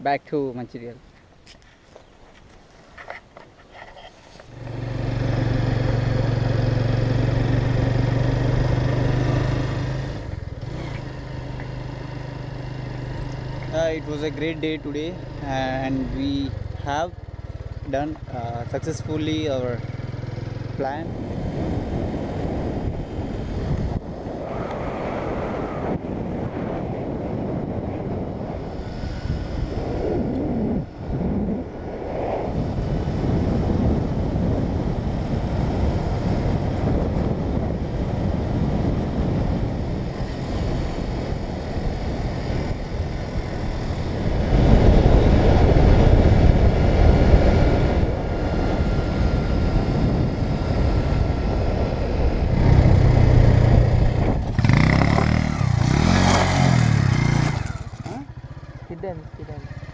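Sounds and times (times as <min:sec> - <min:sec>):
wind and road noise: 0:00.0 - 0:59.9
motorcycle engine: 0:04.3 - 0:59.9.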